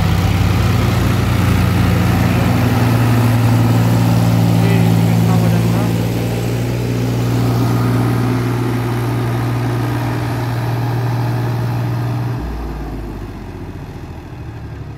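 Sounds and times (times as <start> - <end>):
tractor engines humming: 0.0 - 14.9.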